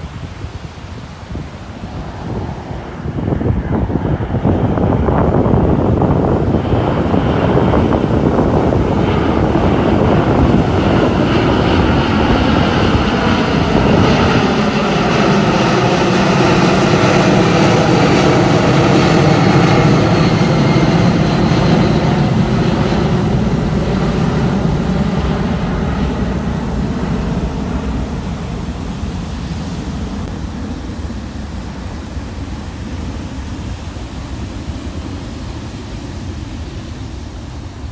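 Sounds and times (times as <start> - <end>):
loud jet engine roar: 0.0 - 37.9.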